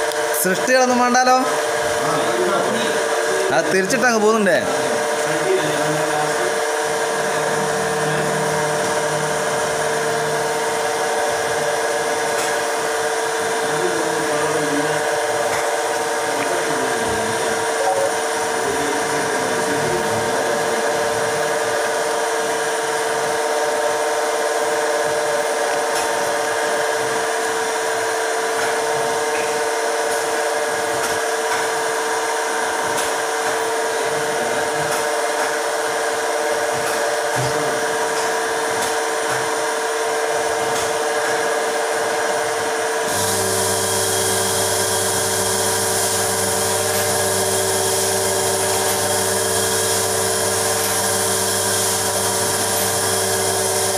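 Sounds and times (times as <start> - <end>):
machine motor humming: 0.0 - 53.9.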